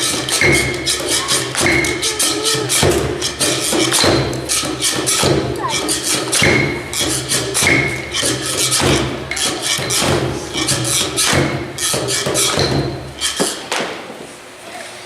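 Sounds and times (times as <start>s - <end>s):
percussive music: 0.0s - 13.7s.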